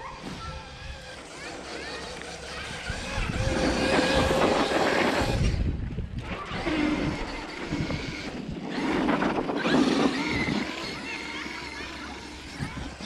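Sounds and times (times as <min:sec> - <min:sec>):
electric toy truck motor whining: 0:00.4 - 0:13.0.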